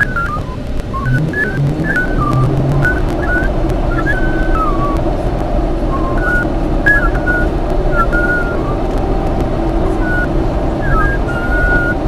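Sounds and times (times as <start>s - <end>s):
person whistling a tune: 0.0s - 5.0s, 5.9s - 8.8s, 9.9s - 12.0s
vehicle driving rumble: 0.0s - 12.0s.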